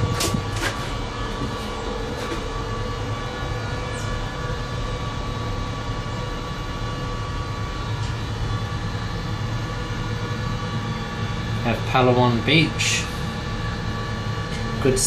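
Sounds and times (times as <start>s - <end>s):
cable car cabin humming: 0.0s - 15.0s.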